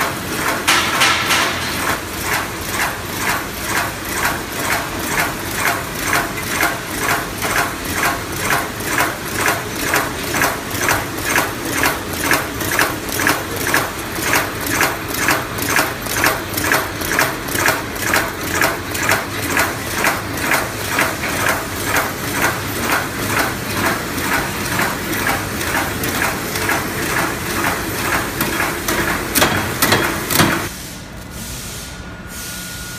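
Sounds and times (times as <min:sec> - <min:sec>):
packing machine beating evenly: 0:00.0 - 0:30.7.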